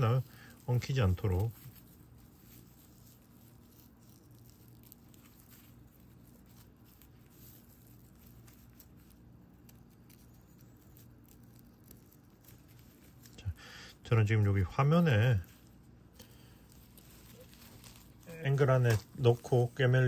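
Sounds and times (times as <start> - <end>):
faint steady hum: 0.0 - 20.0
small crackles: 0.0 - 20.0
yarn rustling and scratching: 0.0 - 20.0.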